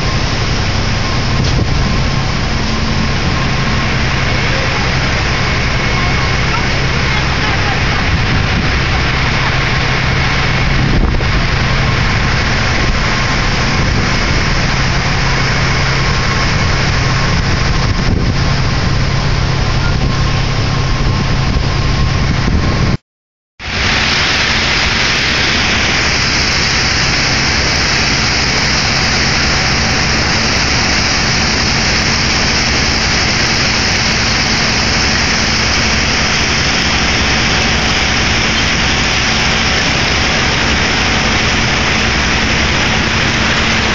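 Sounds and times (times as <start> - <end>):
boat engine drone: 0.0 - 23.0, 23.6 - 43.9
water rushing along hull: 0.0 - 23.0, 23.6 - 43.9.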